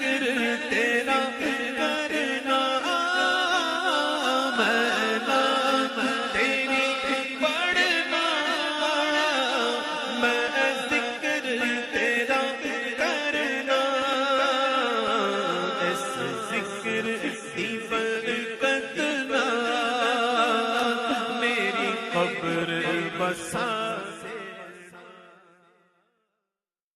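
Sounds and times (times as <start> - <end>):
man singing devotional song: 0.0 - 25.8.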